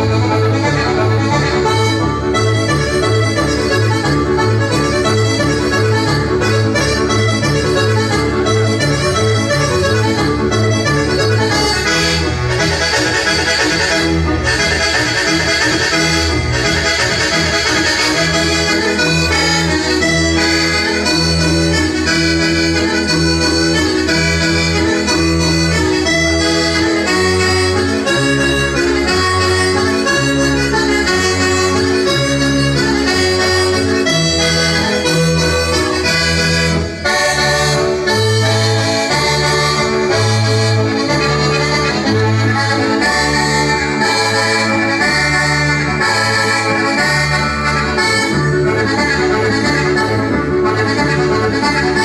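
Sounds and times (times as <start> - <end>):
button accordion dance tune: 0.0 - 52.0.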